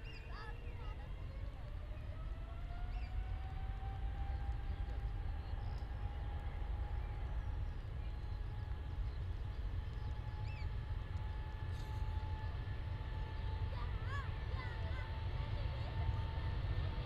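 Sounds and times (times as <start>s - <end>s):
jet engine whine: 0.0s - 17.0s
low engine rumble: 0.0s - 17.0s.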